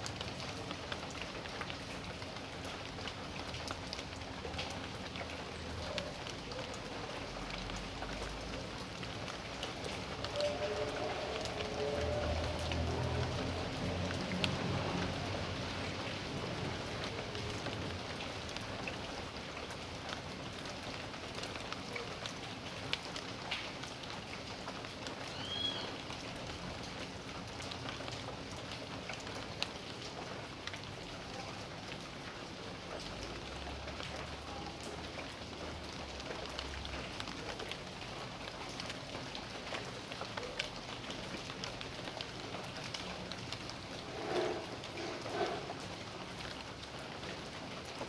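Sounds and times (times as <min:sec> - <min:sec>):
raindrops tapping and splashing: 0:00.0 - 0:48.0
steady rain hiss: 0:00.0 - 0:48.0.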